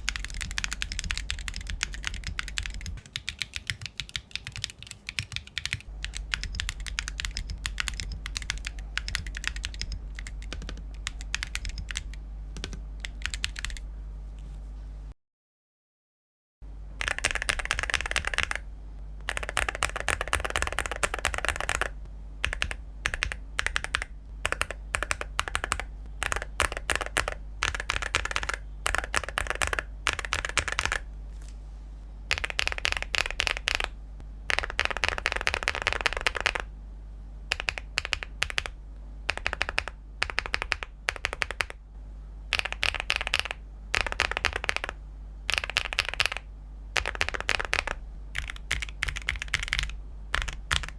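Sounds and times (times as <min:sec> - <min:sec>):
mechanical keyboard typing: 0:00.0 - 0:13.8, 0:17.0 - 0:18.6, 0:19.2 - 0:31.1, 0:32.3 - 0:33.9, 0:34.5 - 0:36.7, 0:37.5 - 0:41.8, 0:42.5 - 0:46.4, 0:47.0 - 0:50.9
steady low hum: 0:00.0 - 0:15.2, 0:16.6 - 0:50.9.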